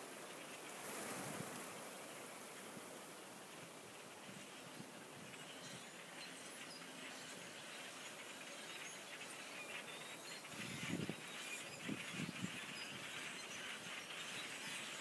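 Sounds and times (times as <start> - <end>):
birds chirping faintly: 0.0 - 15.0
steady outdoor noise: 0.0 - 15.0.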